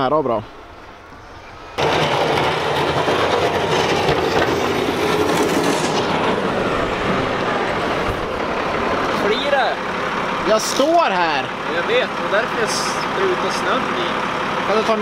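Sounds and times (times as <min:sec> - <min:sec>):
diesel engine under load: 0:00.0 - 0:15.0
plow blade rushing through snow: 0:01.7 - 0:15.0.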